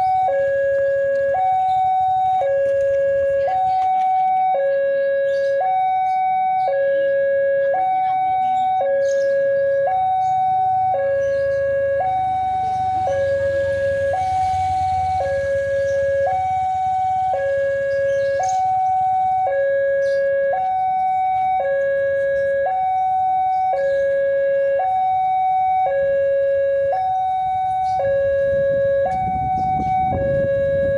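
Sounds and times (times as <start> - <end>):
two-tone crossing alarm: 0.0 - 30.9.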